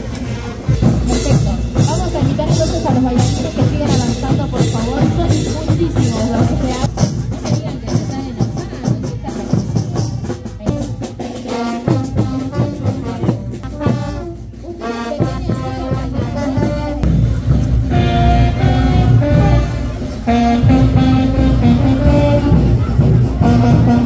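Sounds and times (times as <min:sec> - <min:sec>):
brass band playing: 0:00.0 - 0:24.0
horn melody: 0:00.8 - 0:07.6, 0:09.6 - 0:24.0.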